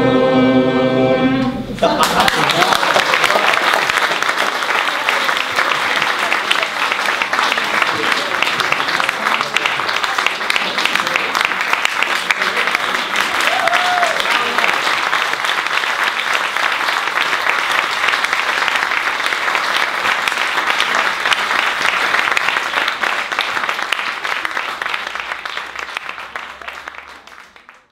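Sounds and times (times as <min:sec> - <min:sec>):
audience applauding: 0:01.8 - 0:27.9.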